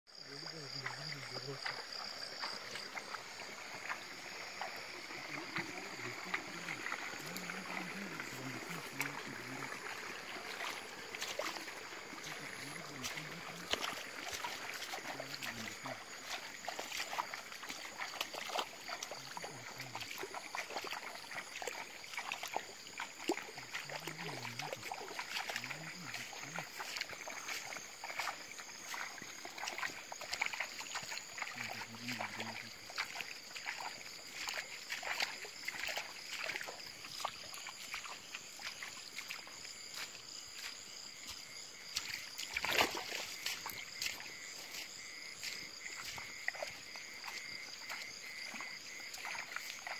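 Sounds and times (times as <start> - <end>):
night insects chirring: 0.1 - 49.9
footsteps through tall grass: 0.6 - 49.9.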